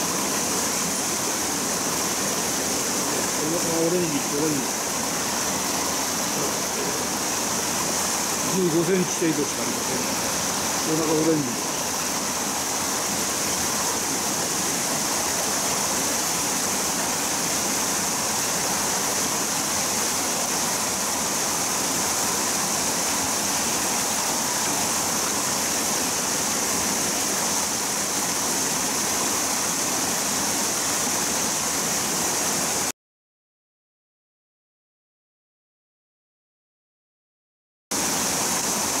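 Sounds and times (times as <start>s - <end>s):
water rushing over rocks: 0.0s - 32.9s, 37.9s - 39.0s.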